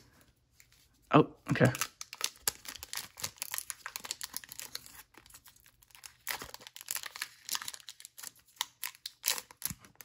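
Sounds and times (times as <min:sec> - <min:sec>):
foil wrapper crinkling and tearing: 0:01.6 - 0:10.0.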